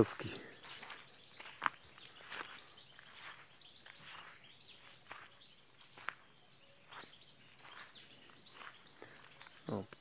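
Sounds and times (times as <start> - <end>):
bird chirps and calls: 0.0 - 10.0.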